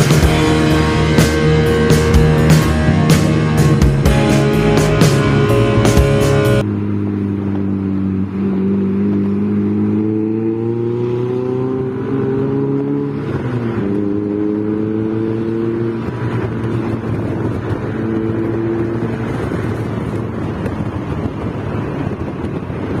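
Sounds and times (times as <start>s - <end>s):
motorcycle engine accelerating: 0.0s - 23.0s
wind and road rush: 0.0s - 23.0s.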